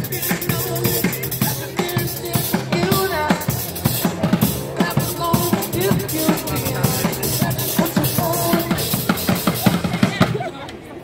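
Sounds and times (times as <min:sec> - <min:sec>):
drum kit playing: 0:00.0 - 0:10.3
pitched backing music: 0:00.0 - 0:10.3.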